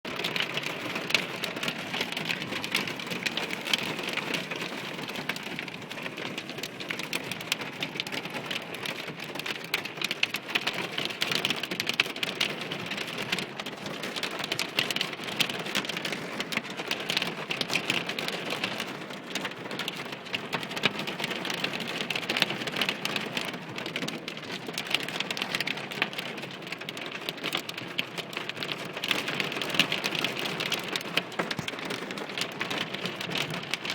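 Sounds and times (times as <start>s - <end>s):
hail and heavy rain on hard surfaces: 0.1s - 33.9s.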